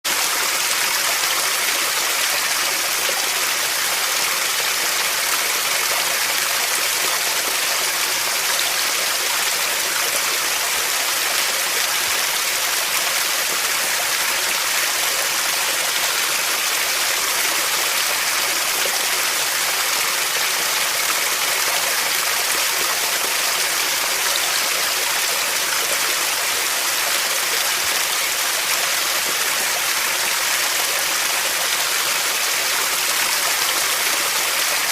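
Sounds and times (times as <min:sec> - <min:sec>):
running water rushing: 0:00.0 - 0:34.9.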